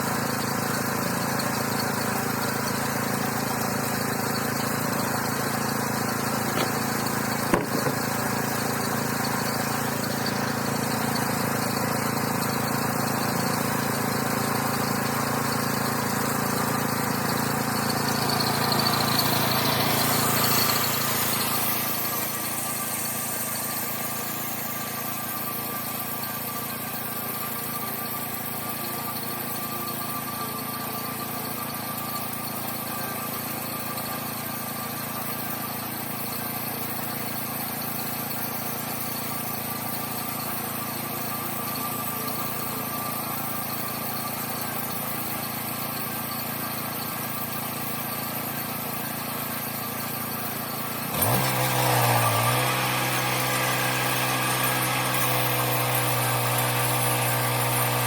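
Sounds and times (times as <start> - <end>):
sawmill engine idling and revving: 0.0 - 58.0.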